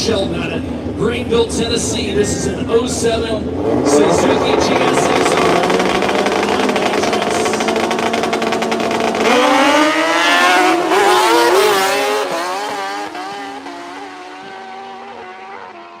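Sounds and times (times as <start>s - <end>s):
motorcycles accelerating hard: 2.2s - 16.0s.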